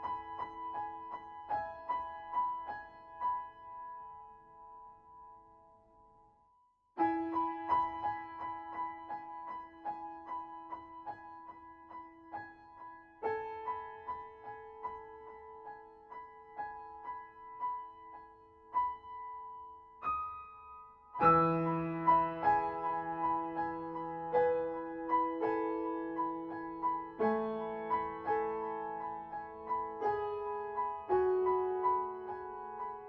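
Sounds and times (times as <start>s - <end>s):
piano music: 0.0s - 5.4s, 7.0s - 33.0s.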